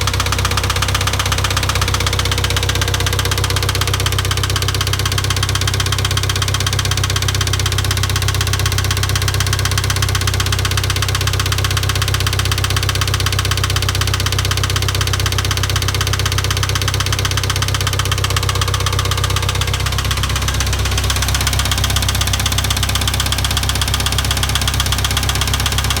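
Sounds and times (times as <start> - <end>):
rhythmic engine knock: 0.0 - 26.0
tractor engine running: 0.0 - 26.0.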